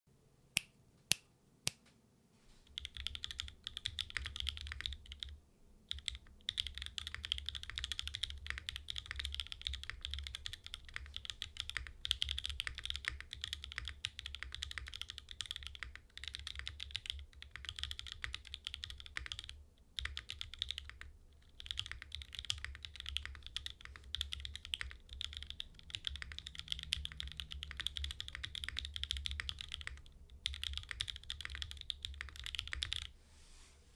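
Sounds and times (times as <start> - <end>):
mechanical keyboard typing: 2.7 - 33.1.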